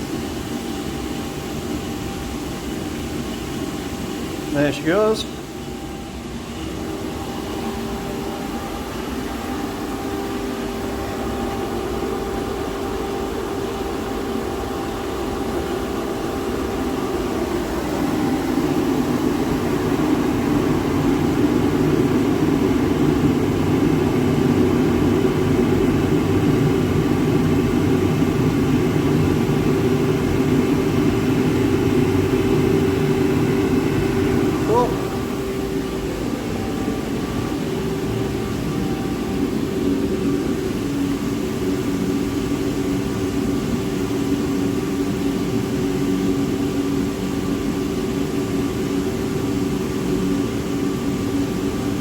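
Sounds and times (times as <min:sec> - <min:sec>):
boiler burner flame rushing: 0:00.0 - 0:52.0
constant hum: 0:00.0 - 0:52.0.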